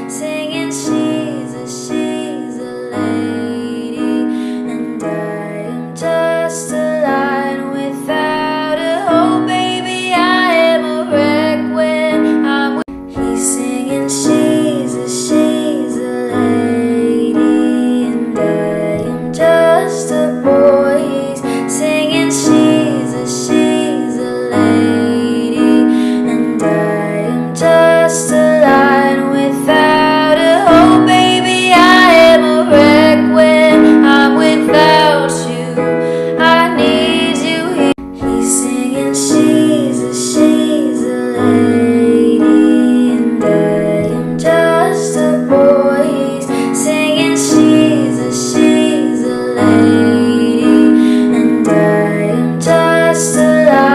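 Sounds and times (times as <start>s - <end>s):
keyboard chords: 0.0s - 53.9s
woman singing: 0.0s - 53.9s.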